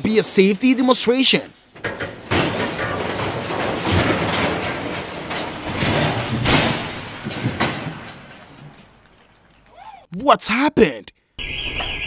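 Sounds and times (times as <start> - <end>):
crane crashing to the ground: 0.0 - 9.8.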